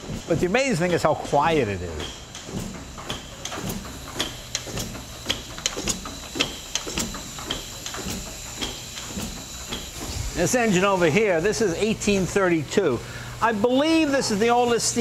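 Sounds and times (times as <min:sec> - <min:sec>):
steam engine clicking: 0:00.0 - 0:15.0.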